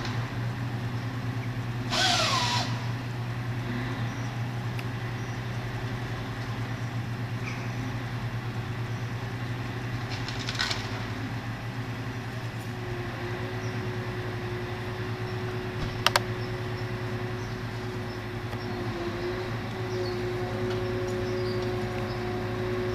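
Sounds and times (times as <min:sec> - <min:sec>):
hydraulic whine: 0:00.0 - 0:09.3, 0:12.1 - 0:22.9
crane engine running: 0:00.0 - 0:22.9.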